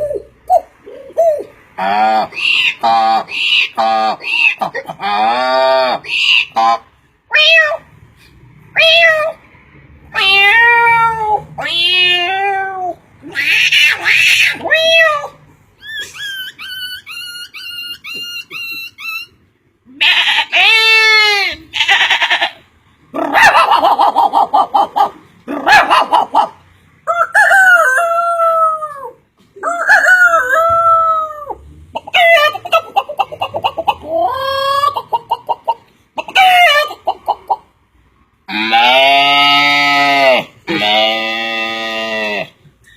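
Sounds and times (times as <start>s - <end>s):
animal calls: 0.0s - 7.9s, 10.1s - 37.7s, 38.5s - 42.9s.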